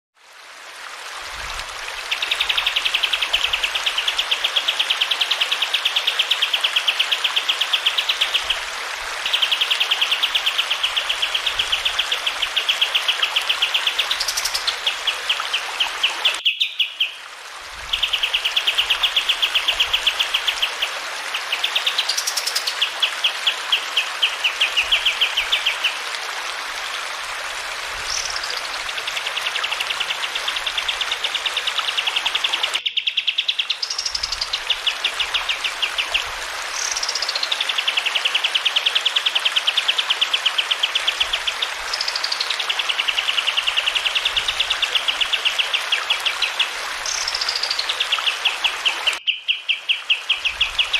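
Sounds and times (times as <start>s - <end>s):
running water: 0.2s - 50.9s.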